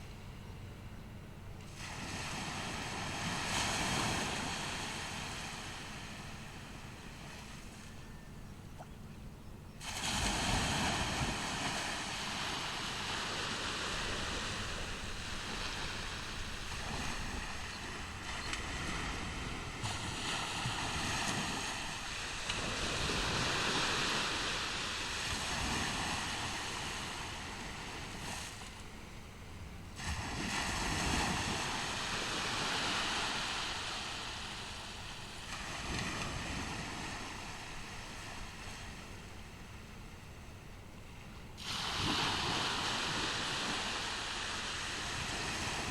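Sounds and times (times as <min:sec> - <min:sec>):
waves breaking on beach: 0:00.0 - 0:00.4, 0:01.6 - 0:09.0, 0:09.8 - 0:45.9.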